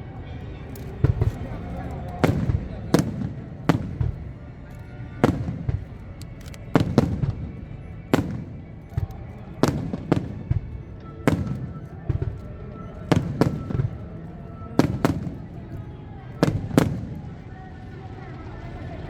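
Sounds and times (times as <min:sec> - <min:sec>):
fireworks bursting with bangs: 0:00.0 - 0:19.0.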